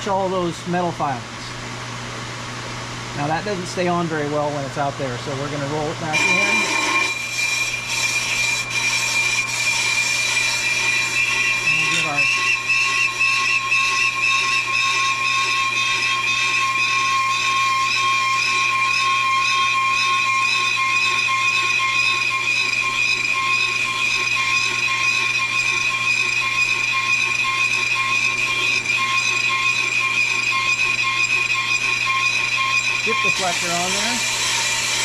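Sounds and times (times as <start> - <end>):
high-pitched ringing from rotor: 3.2 - 35.0
brake lathe running: 5.8 - 35.0.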